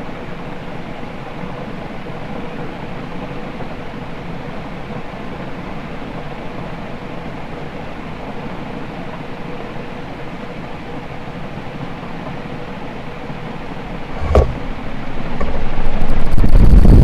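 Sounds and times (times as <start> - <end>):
ceiling fan air rush: 0.0 - 17.0.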